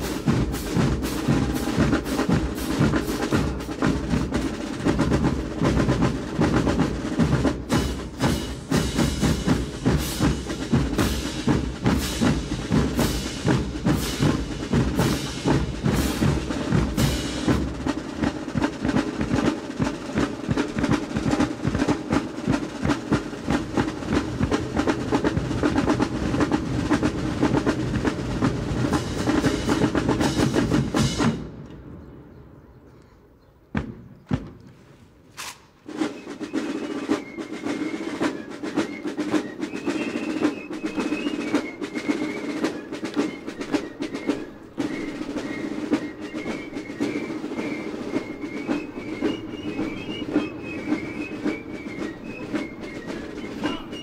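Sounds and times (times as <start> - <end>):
military marching drums: 0.0 - 31.8, 33.7 - 54.0.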